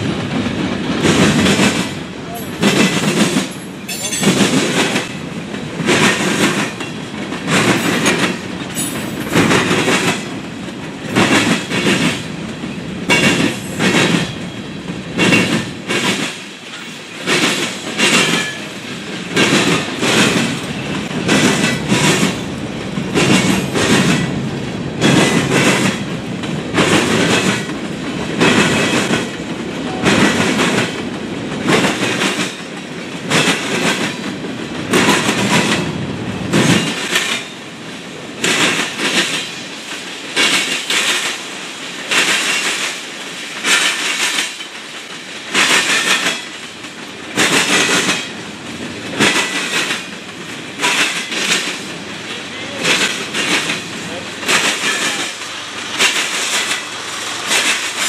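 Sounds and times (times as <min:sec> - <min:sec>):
train wheels clacking: 0:00.0 - 0:58.0.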